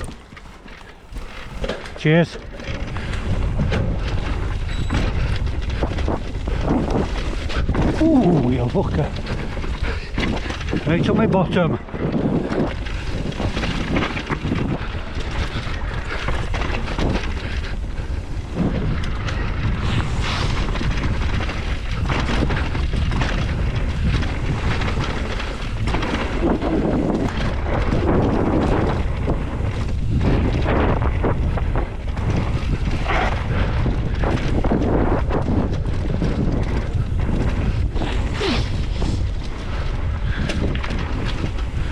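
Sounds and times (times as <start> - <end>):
bike rattling: 0.0 - 41.9
tyres rumbling on trail: 0.0 - 41.9
wind rushing over microphone: 0.0 - 41.9.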